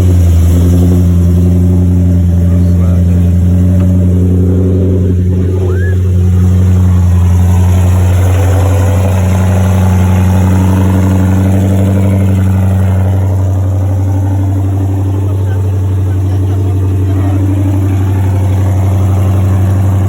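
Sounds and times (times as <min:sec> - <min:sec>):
car engine idling loud exhaust: 0:00.0 - 0:20.0.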